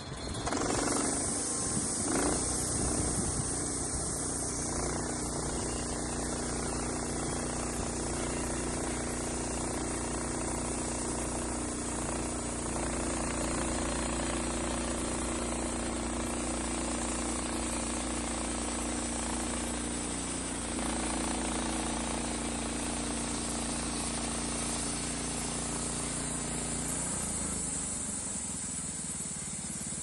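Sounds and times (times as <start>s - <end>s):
constant hiss: 0.0s - 30.0s
engine running steadily: 0.0s - 30.0s.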